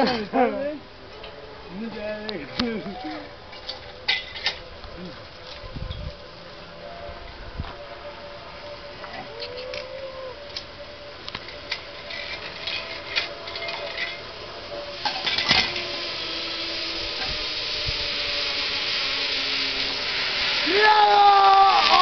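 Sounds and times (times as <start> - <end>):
zip-line trolley rushing hiss: 0.0 - 22.0.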